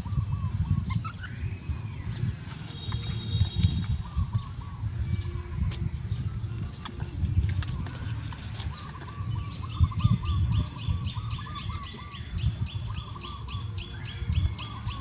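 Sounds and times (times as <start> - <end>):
birds warbling: 0.0 - 15.0.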